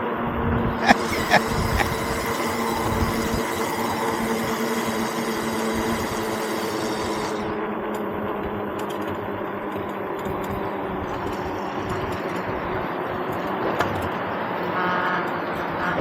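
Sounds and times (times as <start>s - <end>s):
road and wind noise: 0.0s - 16.0s
small vehicle motor running: 0.6s - 15.4s.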